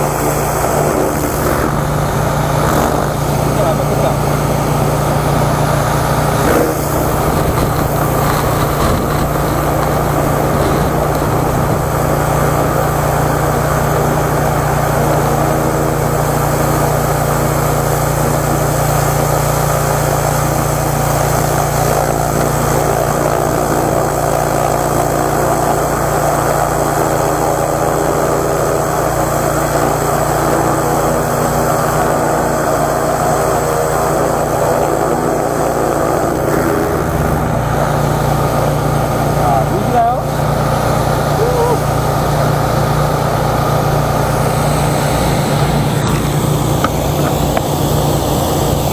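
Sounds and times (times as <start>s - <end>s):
pressure washer engine drone: 0.0s - 48.9s.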